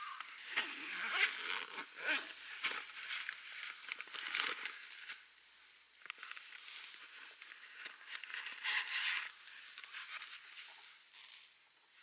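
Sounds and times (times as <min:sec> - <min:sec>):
rustling and crinkling: 0:00.2 - 0:05.3, 0:06.0 - 0:12.0.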